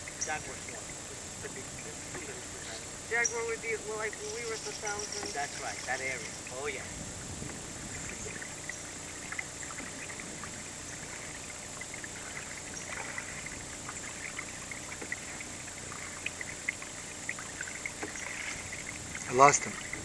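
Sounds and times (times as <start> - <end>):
boat water wash rushing: 0.0 - 20.0
small ticks and splashes: 0.0 - 20.0.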